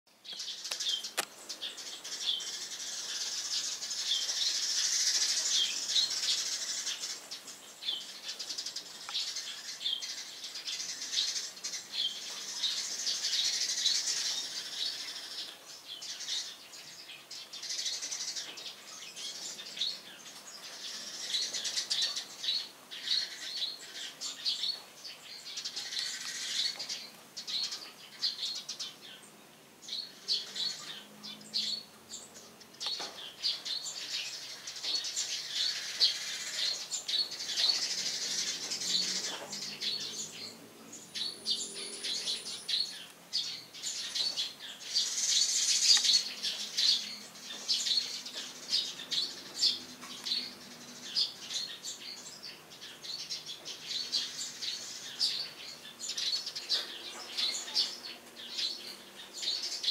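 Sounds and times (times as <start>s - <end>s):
sparrows chirping: 0.1s - 59.9s.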